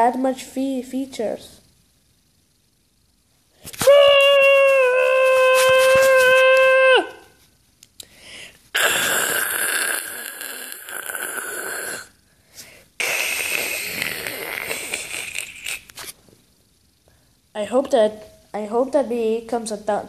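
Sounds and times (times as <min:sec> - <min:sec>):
television static hiss: 0:00.0 - 0:12.2, 0:12.8 - 0:20.0.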